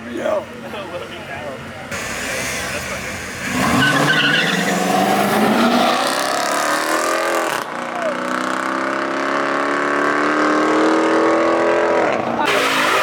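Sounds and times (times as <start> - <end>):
crowd noise: 0.0 - 13.0
car engine accelerating hard: 1.9 - 13.0.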